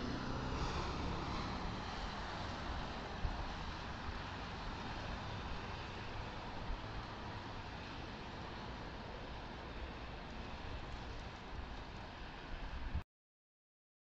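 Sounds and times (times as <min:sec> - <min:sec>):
heavy truck engines rumbling: 0:00.0 - 0:12.9
slow traffic: 0:00.0 - 0:13.0
tyre hiss on wet road: 0:00.1 - 0:13.0.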